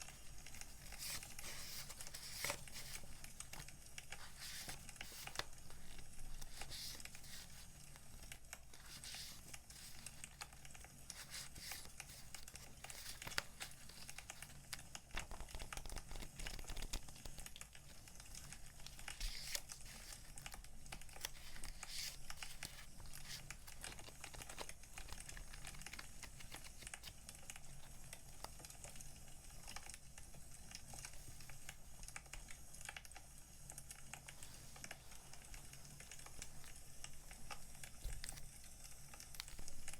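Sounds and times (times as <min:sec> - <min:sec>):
plastic sleeves crinkling: 0:00.0 - 0:31.7, 0:34.3 - 0:39.9.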